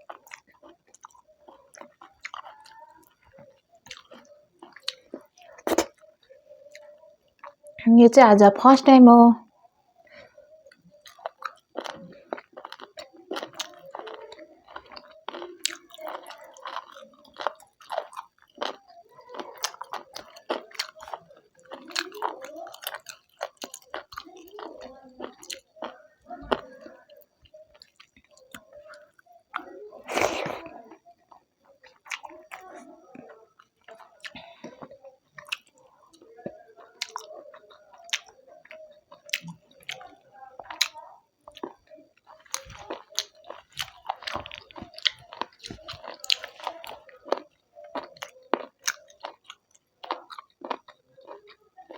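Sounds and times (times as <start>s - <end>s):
wet chewing and lip smacking: 0.0s - 7.8s, 10.7s - 51.9s.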